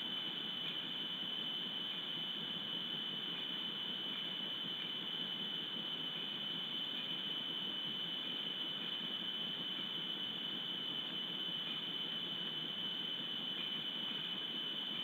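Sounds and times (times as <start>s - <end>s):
high-pitched electronic whine: 0.0s - 15.0s.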